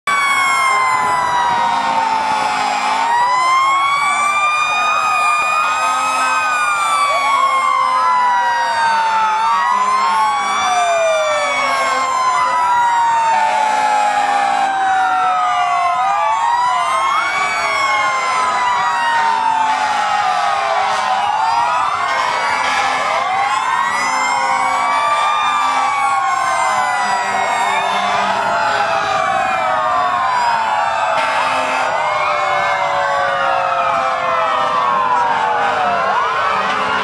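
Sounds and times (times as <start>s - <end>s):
fire engine sirens wailing: 0.0s - 37.0s.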